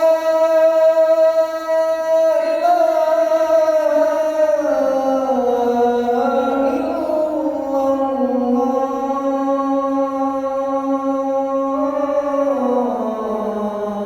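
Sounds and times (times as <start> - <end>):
person chanting call to prayer: 0.0 - 14.0.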